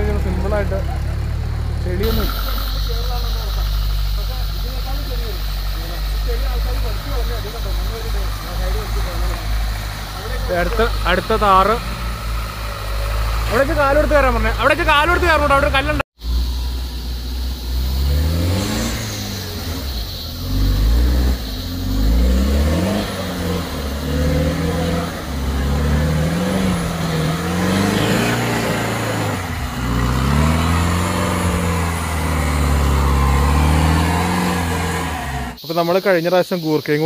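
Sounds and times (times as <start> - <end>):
off-road vehicle engine revving: 0.0 - 35.6.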